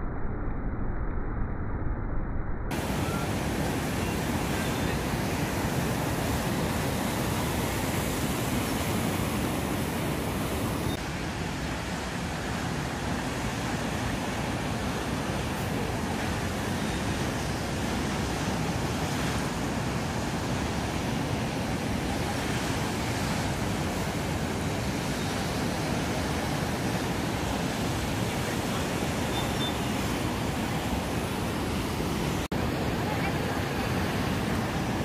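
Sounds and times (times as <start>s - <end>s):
waves breaking: 2.7s - 35.0s.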